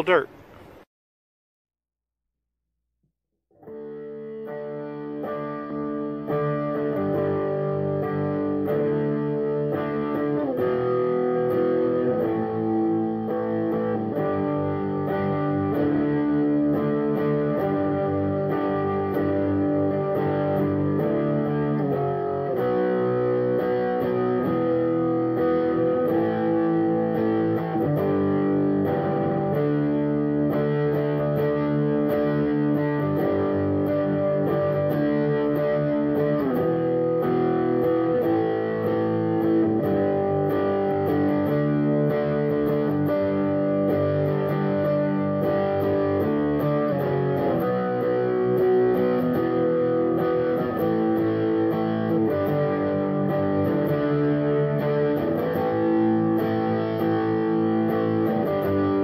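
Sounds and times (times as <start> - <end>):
guitar background music: 3.5 - 59.0.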